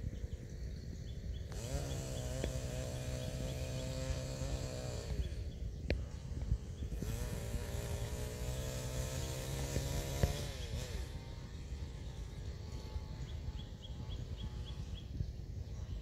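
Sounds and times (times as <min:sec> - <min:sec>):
distant chainsaw revving: 0:01.4 - 0:15.2.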